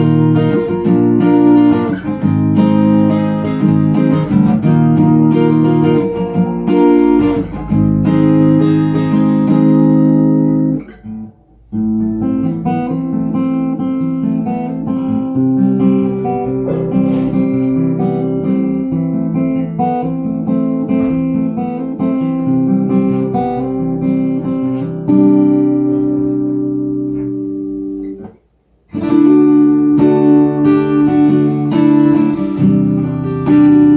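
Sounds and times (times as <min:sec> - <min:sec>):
acoustic guitar strumming and picking: 0:00.0 - 0:33.9.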